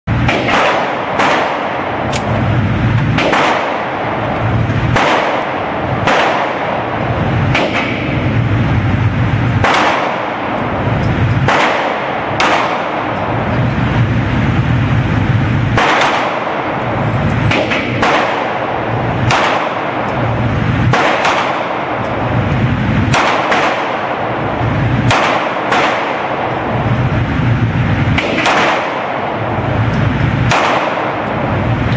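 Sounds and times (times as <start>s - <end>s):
pistol shots with echo: 0.1s - 2.4s, 3.0s - 8.4s, 9.5s - 13.5s, 15.6s - 27.0s, 27.9s - 31.9s.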